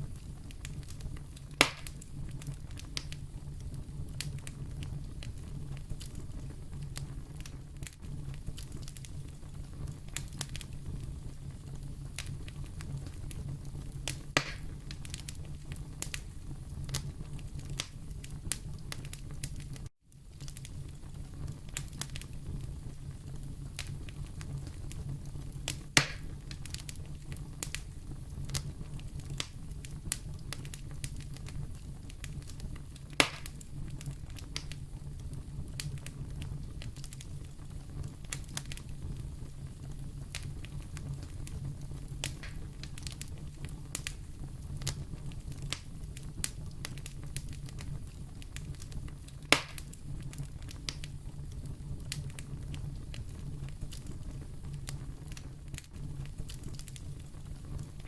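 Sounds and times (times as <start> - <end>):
fire snaps and pops: 0.0 - 58.0
wood fire crackling: 0.0 - 58.0.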